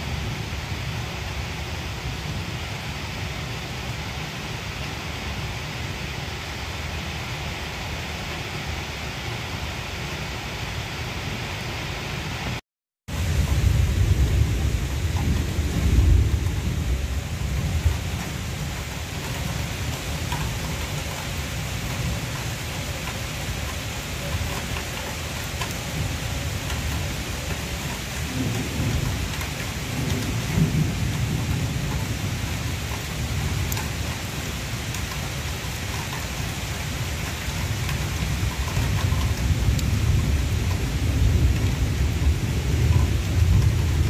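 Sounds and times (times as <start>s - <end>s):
rain falling on trees and grass: 0.0s - 44.0s.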